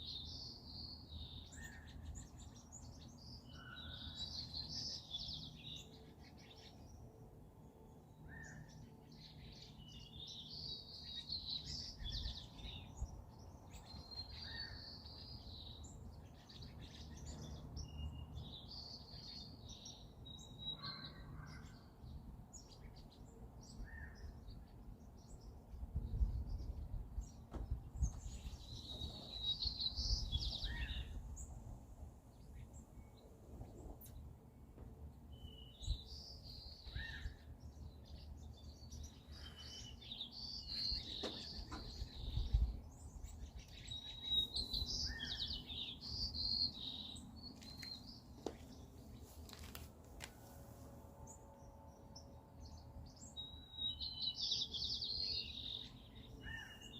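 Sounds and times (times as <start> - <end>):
songbirds chirping and twittering: 0.0 - 56.9.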